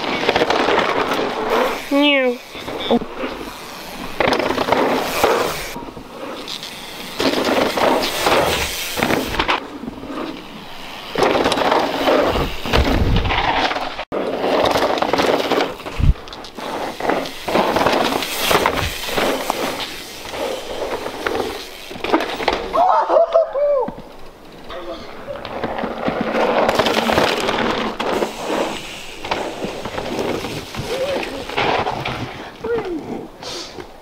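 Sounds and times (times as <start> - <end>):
rattling and crackling impacts: 0.0 - 22.8, 23.9 - 32.6
bike tyres on dirt and gravel: 0.0 - 34.0.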